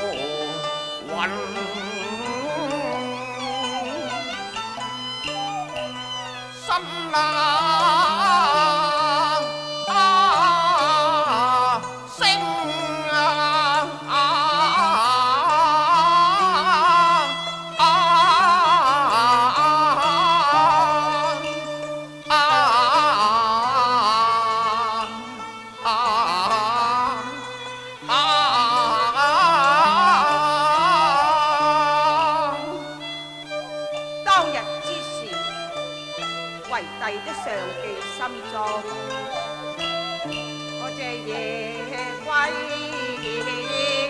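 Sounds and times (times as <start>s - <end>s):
high wavering opera singing: 0.0s - 44.0s
instrumental accompaniment: 0.0s - 44.0s.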